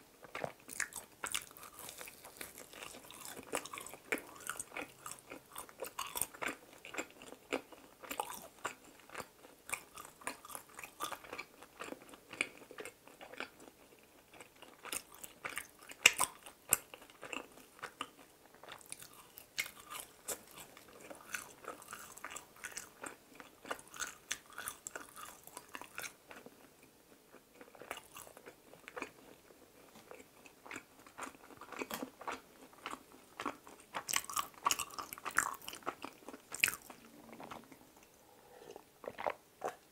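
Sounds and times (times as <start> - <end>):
chewing and biting donuts: 0.2 - 37.9.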